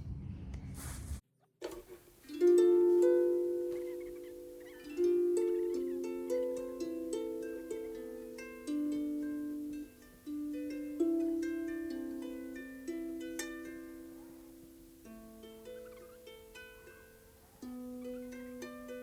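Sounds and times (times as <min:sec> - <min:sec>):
harp music: 0:02.2 - 0:19.0.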